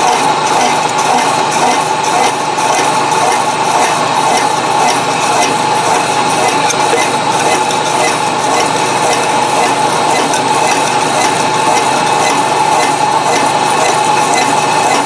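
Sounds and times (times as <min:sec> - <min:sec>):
metallic scraping chatter: 0:00.0 - 0:15.0
milling machine whine: 0:00.0 - 0:15.0.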